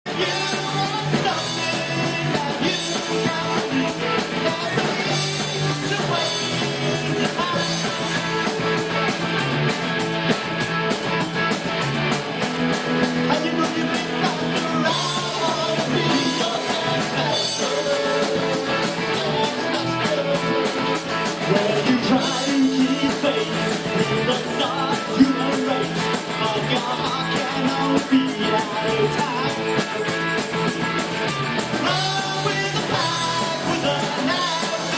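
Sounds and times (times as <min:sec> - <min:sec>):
guitar: 0:00.0 - 0:34.9
person singing: 0:00.1 - 0:08.8, 0:13.1 - 0:30.3, 0:31.8 - 0:34.9.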